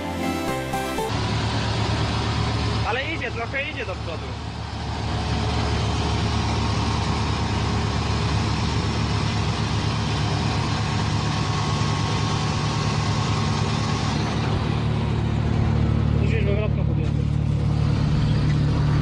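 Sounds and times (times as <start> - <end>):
heavy vehicle engine droning: 0.0 - 19.0.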